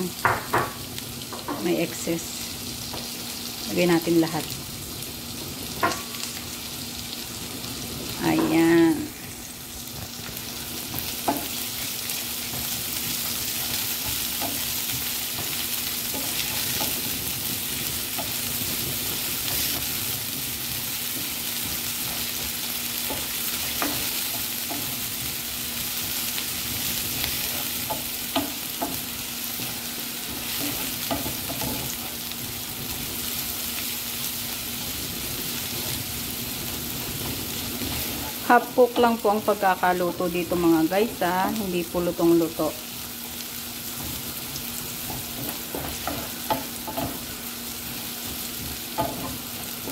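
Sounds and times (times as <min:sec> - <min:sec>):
vegetables sizzling in a pan: 0:00.0 - 0:49.9.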